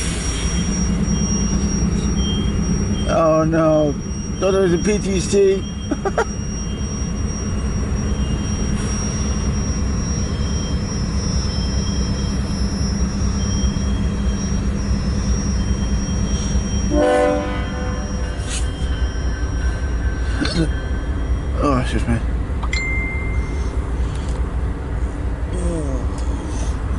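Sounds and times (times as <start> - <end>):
short pitched tone: 0.0 - 24.1
diesel locomotives rumbling: 0.0 - 26.9.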